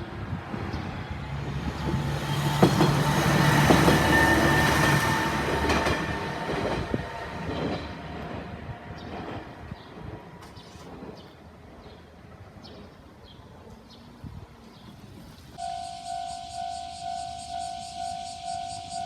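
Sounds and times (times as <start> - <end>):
diesel railcar passing: 0.0 - 19.0.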